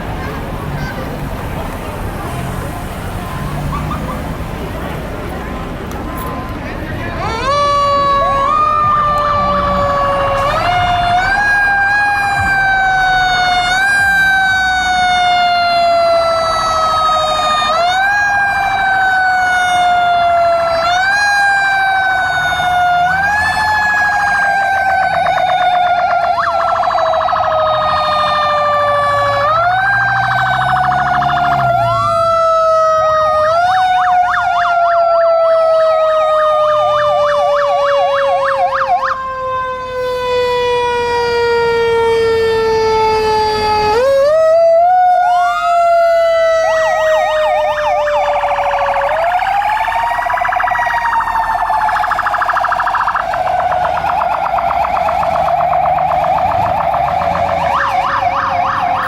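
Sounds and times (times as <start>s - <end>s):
wailing fire truck siren: 0.0s - 59.0s
yelping siren: 3.2s - 4.4s, 7.2s - 59.0s.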